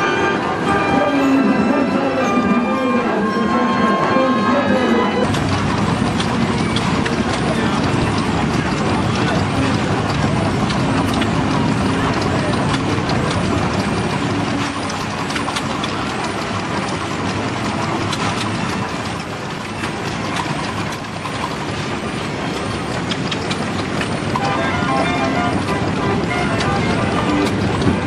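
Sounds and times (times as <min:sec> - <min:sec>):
steam machinery hissing and clattering: 0:05.2 - 0:28.0.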